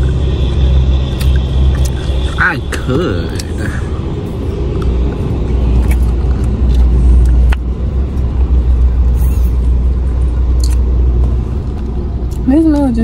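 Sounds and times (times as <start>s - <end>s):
low rumble inside car cabin: 0.0s - 13.0s.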